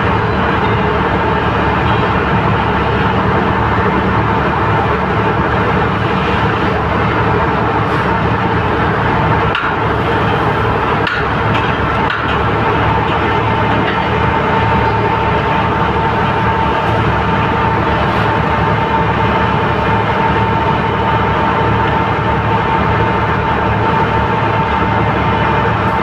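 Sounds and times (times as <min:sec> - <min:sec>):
large engine running: 0:00.0 - 0:26.0.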